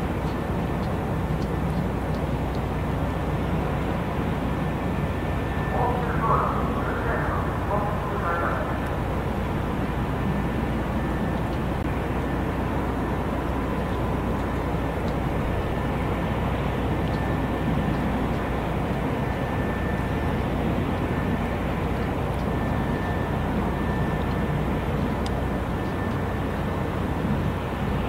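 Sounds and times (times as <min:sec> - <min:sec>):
faint high whine: 0:00.0 - 0:28.0
harbour rumble and hiss: 0:00.0 - 0:28.0.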